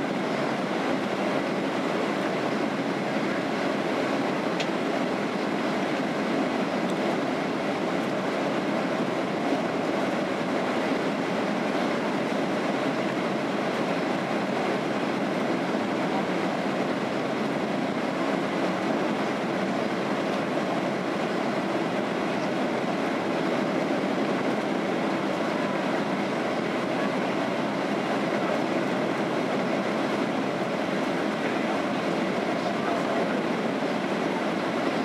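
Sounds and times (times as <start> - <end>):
airliner cabin engine and airflow rush: 0.0 - 35.0.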